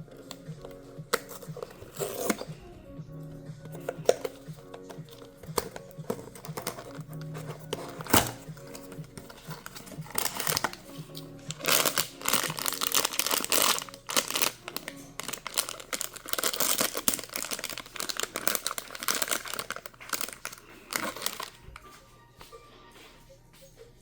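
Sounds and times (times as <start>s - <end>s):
plastic wrapping crinkling: 0.0s - 2.6s, 3.6s - 22.0s
packaging tearing: 1.1s - 2.5s, 3.8s - 21.6s.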